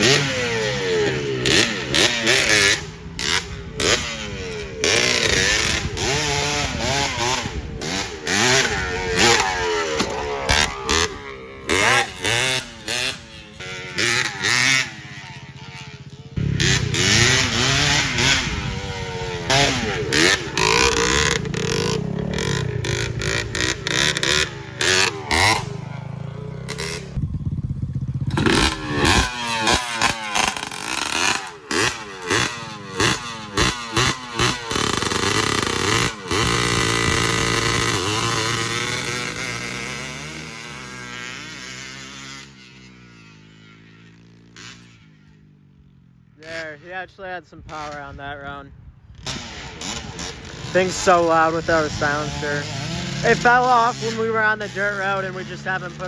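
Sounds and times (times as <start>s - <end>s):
engine revving without silencer: 0.0s - 42.6s, 49.1s - 56.0s.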